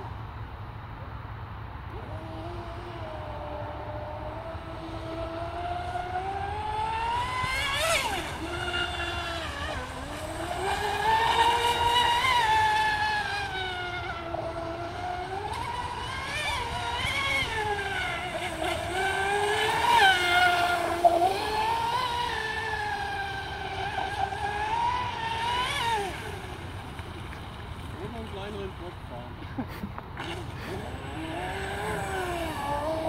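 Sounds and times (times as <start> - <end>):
electric boat motor whining: 1.8 - 33.0.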